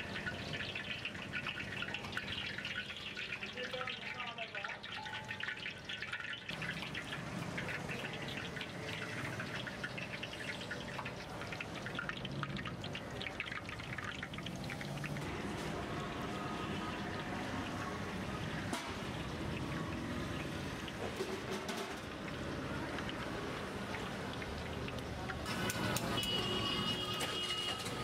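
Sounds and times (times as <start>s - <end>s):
chicken deep-frying in oil: 0.0s - 28.0s.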